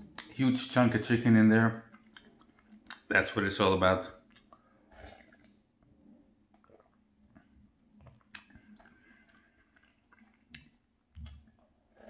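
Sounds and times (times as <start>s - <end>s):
faint chewing and sipping: 0.0s - 3.5s, 4.1s - 12.0s.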